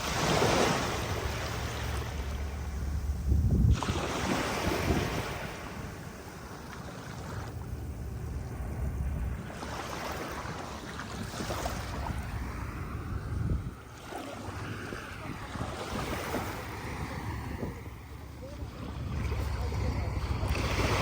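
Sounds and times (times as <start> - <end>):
sea waves washing onto beach: 0.0 - 21.0
wind rumbling on microphone: 0.0 - 21.0.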